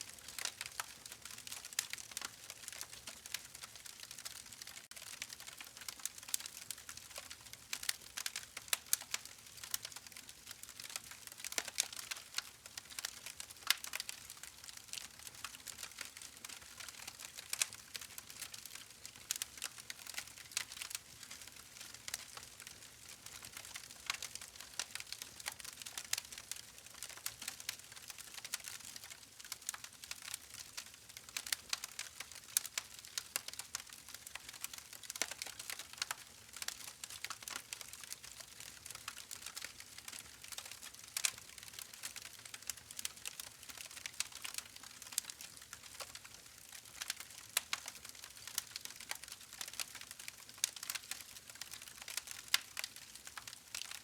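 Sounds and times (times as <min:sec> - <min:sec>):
campfire crackling and popping: 0:00.2 - 0:54.0.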